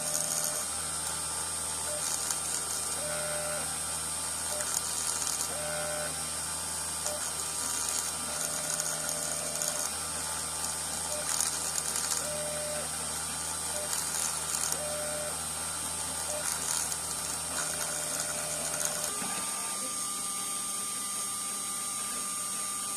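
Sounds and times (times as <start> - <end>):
cutter scratching metal: 0.0 - 0.8, 4.6 - 6.3, 7.0 - 22.9
milling machine spindle whine: 0.0 - 22.9
stepper motor tones: 0.0 - 22.9.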